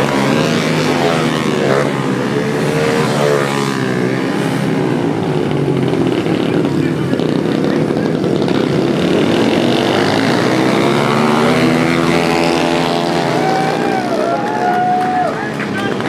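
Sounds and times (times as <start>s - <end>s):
pit bike engines revving: 0.0s - 16.0s.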